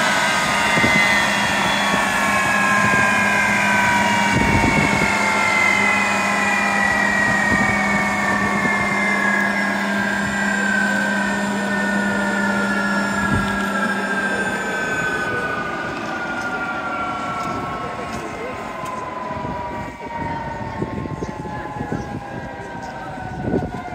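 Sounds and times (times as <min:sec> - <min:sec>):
steady low hum: 0:00.0 - 0:23.8
jet engine winding down: 0:00.0 - 0:23.9.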